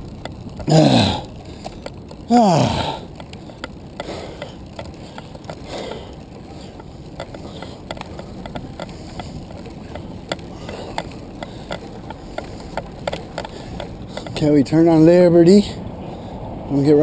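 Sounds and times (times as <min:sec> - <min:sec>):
bike drivetrain clicks: 0:00.0 - 0:17.0
wind and road noise: 0:00.0 - 0:17.0.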